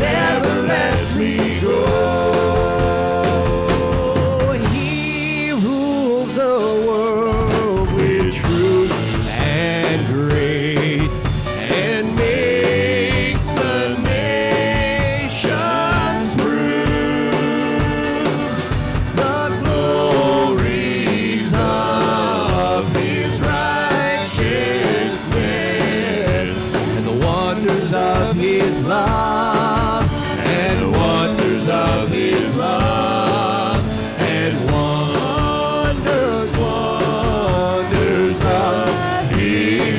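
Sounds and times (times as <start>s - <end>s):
singing: 0.0s - 39.9s
steady drum beat: 0.0s - 39.9s
worship band music: 0.0s - 39.9s.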